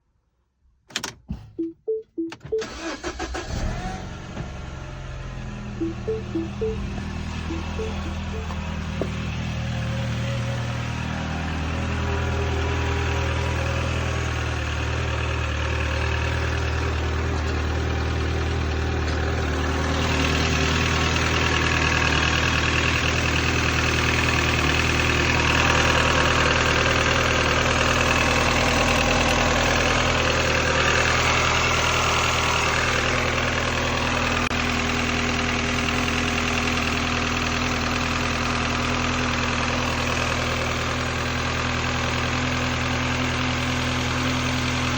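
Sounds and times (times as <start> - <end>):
engine idling: 4.8 - 44.9.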